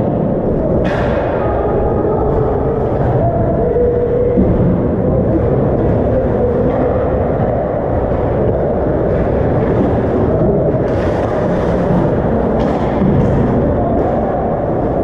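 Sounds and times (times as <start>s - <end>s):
ice rink low rumble: 0.0s - 15.0s.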